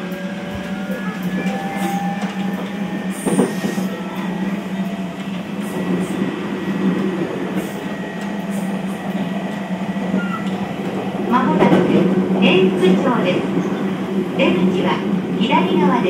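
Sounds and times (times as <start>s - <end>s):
electric train hum: 0.0s - 16.0s.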